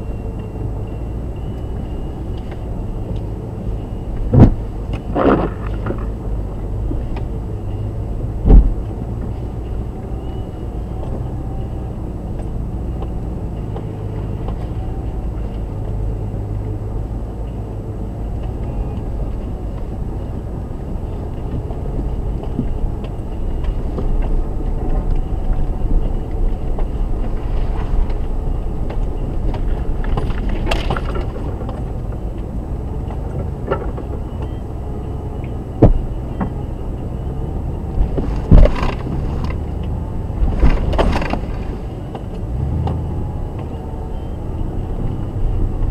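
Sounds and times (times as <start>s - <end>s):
engine and drivetrain rumble: 0.0s - 45.9s.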